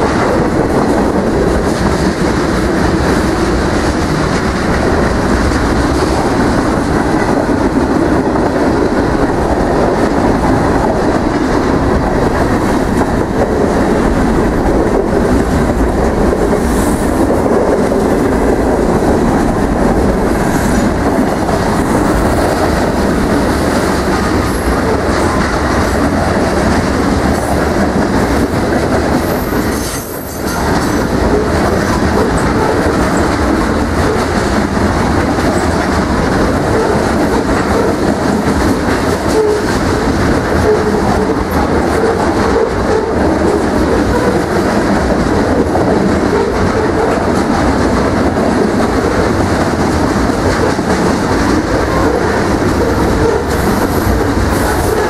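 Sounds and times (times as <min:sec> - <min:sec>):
clickety-clack of train trucks: 0:00.0 - 0:55.0
freight train wheels rumbling: 0:00.0 - 0:55.0.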